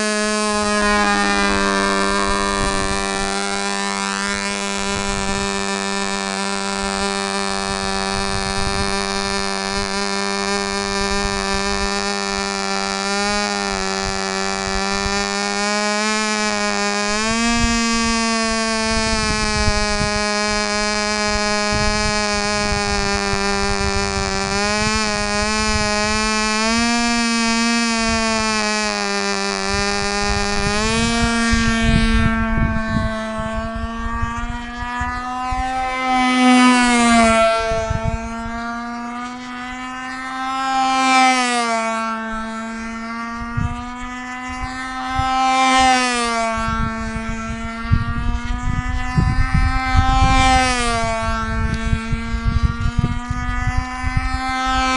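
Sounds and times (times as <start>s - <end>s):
model engine high buzzing whine: 0.0s - 54.9s.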